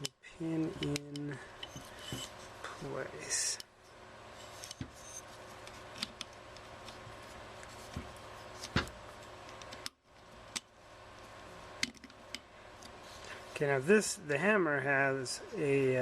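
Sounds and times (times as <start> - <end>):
faint steady background noise: 0.0 - 16.0.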